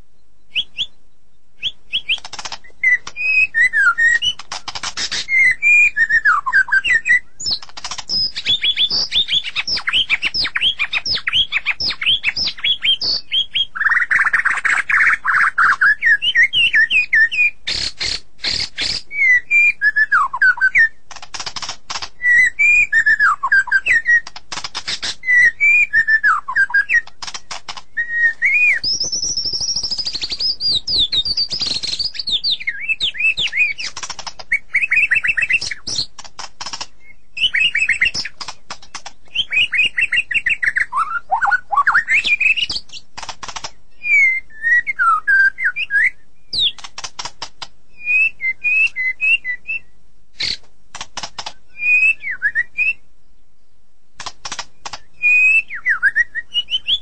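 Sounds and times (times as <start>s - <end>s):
songbird singing: 0.0s - 57.0s
dry clicking bird notes: 1.6s - 44.8s, 45.4s - 49.8s, 50.4s - 53.0s, 54.2s - 57.0s.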